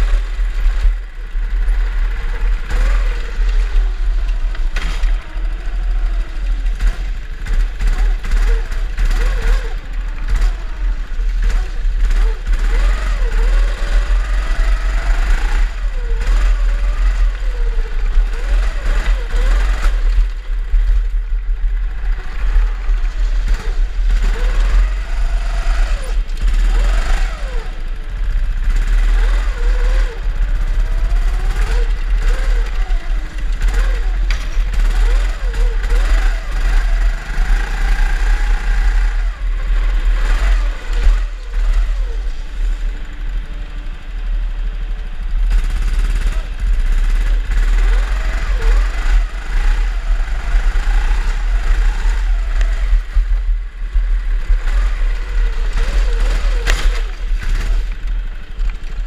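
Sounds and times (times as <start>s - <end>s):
deep rumble: 0.0s - 59.0s
kart motors revving: 0.0s - 59.0s.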